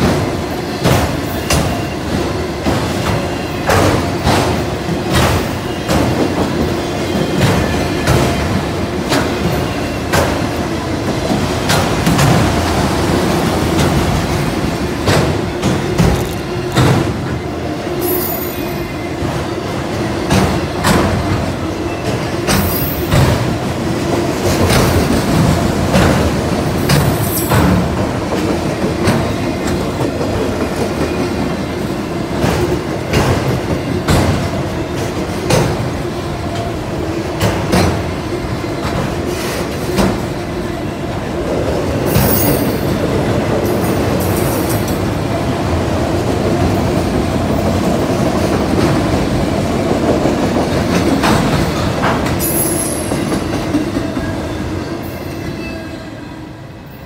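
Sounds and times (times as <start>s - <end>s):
train cars rumbling on rails: 0.0s - 57.0s.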